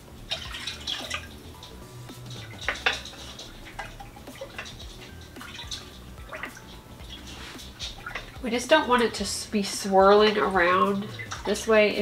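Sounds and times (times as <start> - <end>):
milk sloshing in a metal pot: 0.0 - 12.0.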